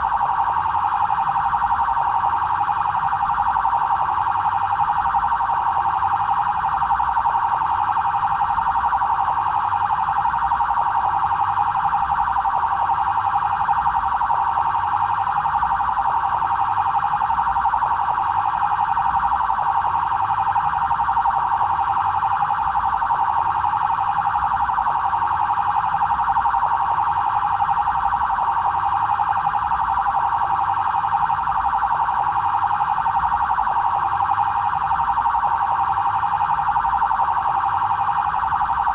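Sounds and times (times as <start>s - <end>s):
police siren: 0.0s - 38.9s.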